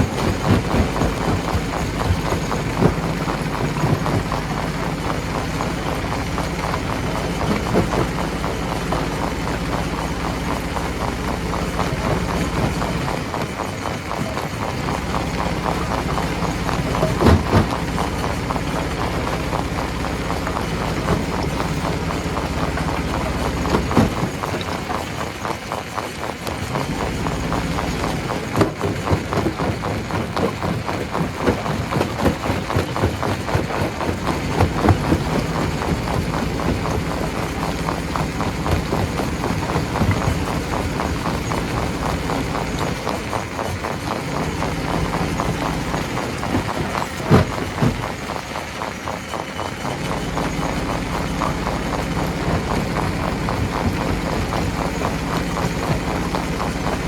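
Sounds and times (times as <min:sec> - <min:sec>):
low mechanical hum: 0:00.0 - 0:57.0
rocks clattering in stone crusher: 0:00.0 - 0:57.0.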